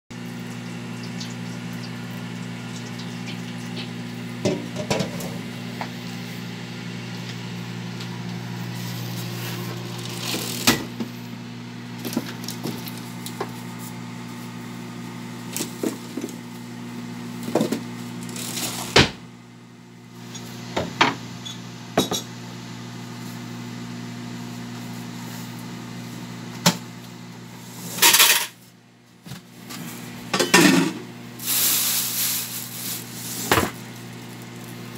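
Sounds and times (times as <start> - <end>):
microwave oven humming: 0.1 - 34.9.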